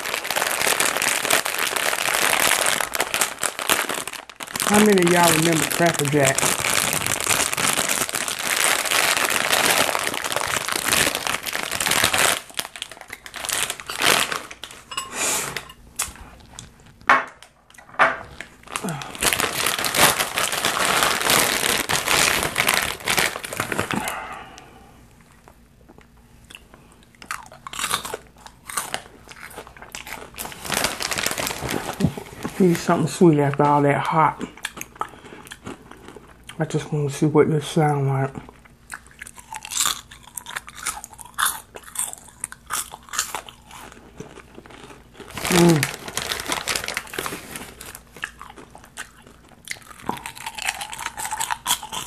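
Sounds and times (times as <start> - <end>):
crunching and chewing popcorn: 0.0 - 14.9, 15.5 - 36.8, 38.3 - 52.0
plastic snack bag crinkling: 0.0 - 24.6, 27.2 - 36.8, 37.6 - 52.0.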